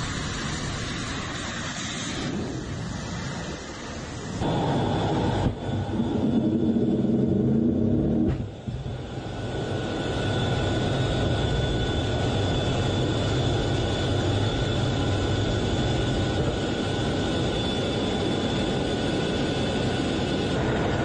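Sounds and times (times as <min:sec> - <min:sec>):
airflow noise: 0:00.0 - 0:21.0
jet engines at full power: 0:00.0 - 0:21.0.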